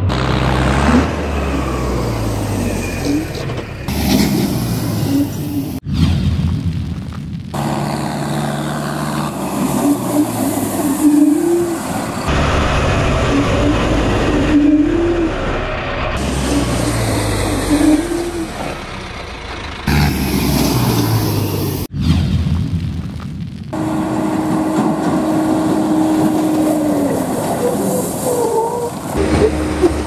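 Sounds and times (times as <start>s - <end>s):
diesel tractor engines running: 0.0s - 5.8s, 7.4s - 21.9s, 23.7s - 30.0s.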